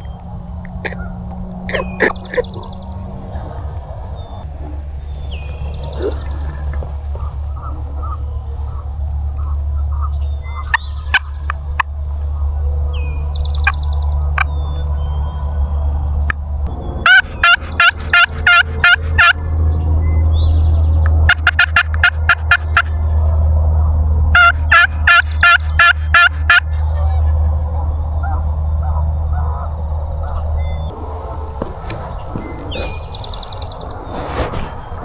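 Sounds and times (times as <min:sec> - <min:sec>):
turkey gobbling: 0:00.0 - 0:15.2, 0:17.0 - 0:19.4, 0:21.3 - 0:23.1, 0:23.8 - 0:34.8
steady low rumble: 0:00.0 - 0:35.0.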